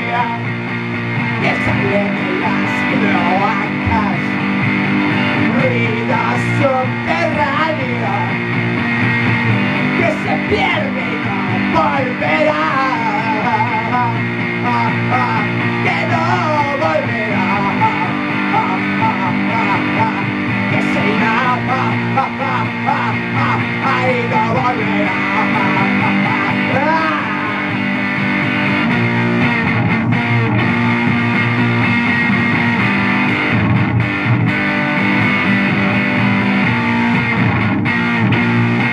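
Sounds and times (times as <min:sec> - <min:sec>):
electric guitar bending notes: 0:00.0 - 0:38.9
low guitar drone: 0:00.0 - 0:38.9.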